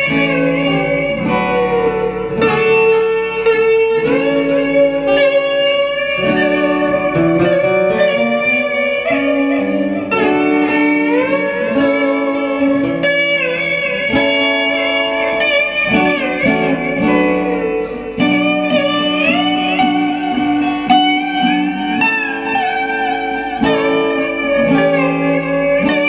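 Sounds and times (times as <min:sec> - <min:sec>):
slide guitar melody: 0:00.0 - 0:26.0.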